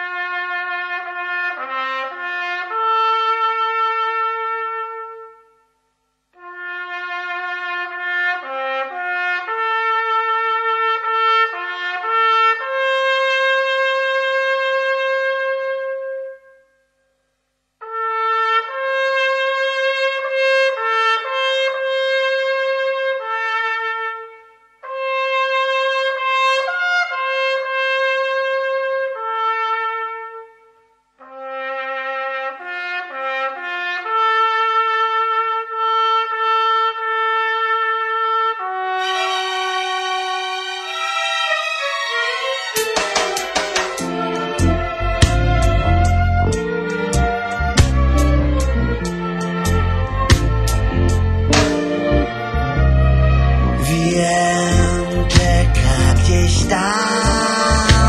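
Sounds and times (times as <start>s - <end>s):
slow instrumental music with horn: 0.0s - 5.6s, 6.4s - 16.7s, 17.8s - 58.0s.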